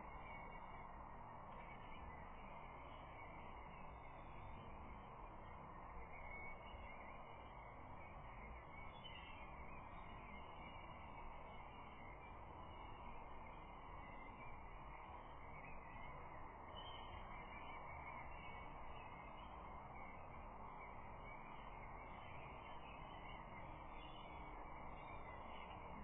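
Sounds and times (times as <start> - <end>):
faint outdoor background hiss: 0.0 - 26.0.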